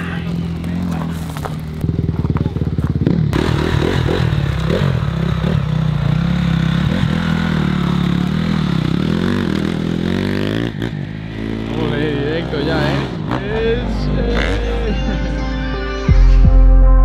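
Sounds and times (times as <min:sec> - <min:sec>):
motocross bike engine revving: 0:00.0 - 0:15.2.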